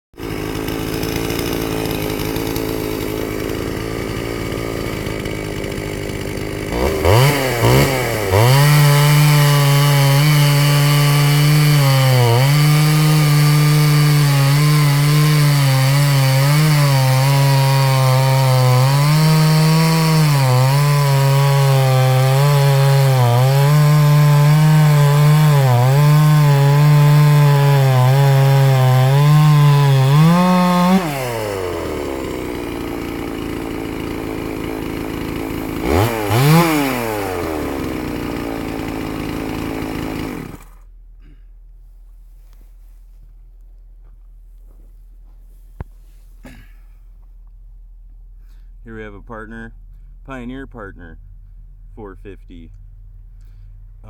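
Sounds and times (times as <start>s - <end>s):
chainsaw revving and cutting wood: 0.2s - 41.4s, 45.9s - 47.1s, 48.4s - 51.2s.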